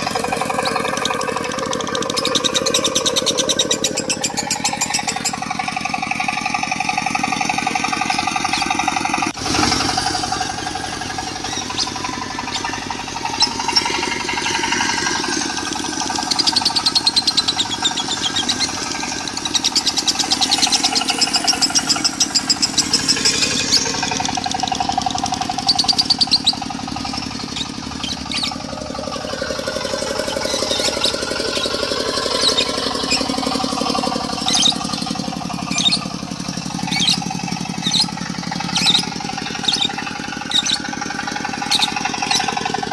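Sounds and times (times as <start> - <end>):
birds chattering in trills: 0.0 - 42.9
diesel engine running: 0.0 - 42.9.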